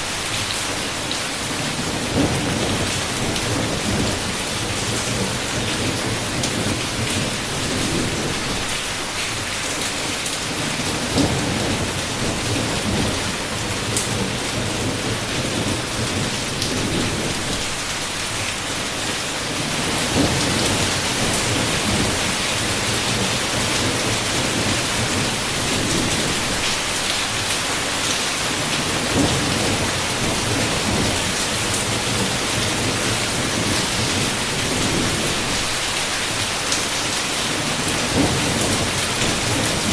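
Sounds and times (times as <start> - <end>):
heavy rain falling: 0.0 - 39.9
low thunder rumbling: 1.7 - 9.0, 10.5 - 17.9, 19.6 - 27.4, 28.6 - 35.9, 37.5 - 39.9.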